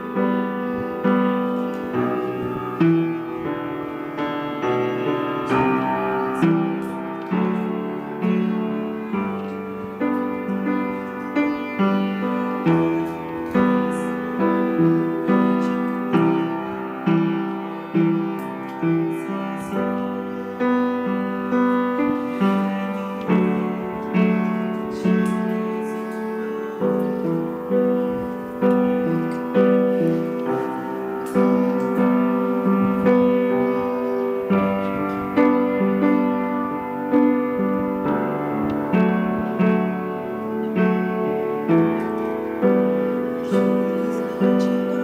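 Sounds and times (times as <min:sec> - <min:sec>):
slow piano tune: 0:00.0 - 0:45.0.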